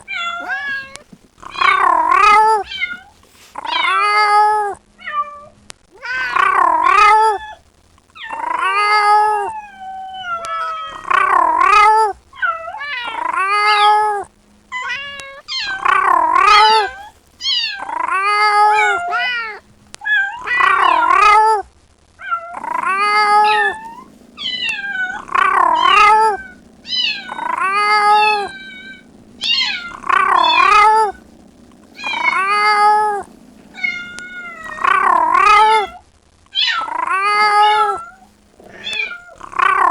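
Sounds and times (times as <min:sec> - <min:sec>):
kitten meowing: 0:00.0 - 0:05.2, 0:06.0 - 0:07.6, 0:08.2 - 0:21.6, 0:22.3 - 0:36.0, 0:36.6 - 0:39.9
faint low hum: 0:00.0 - 0:39.9.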